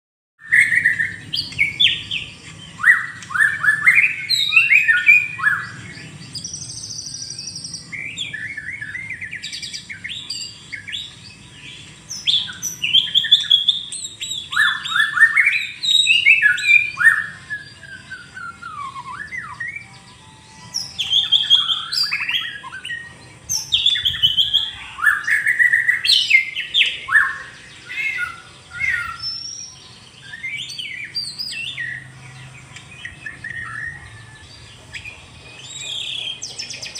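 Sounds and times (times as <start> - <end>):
bird singing whistled song: 0.4 - 36.9.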